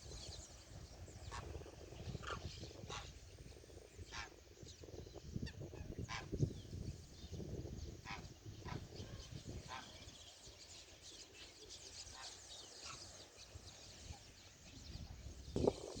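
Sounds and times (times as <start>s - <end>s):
flock of birds chirping: 0.0s - 16.0s.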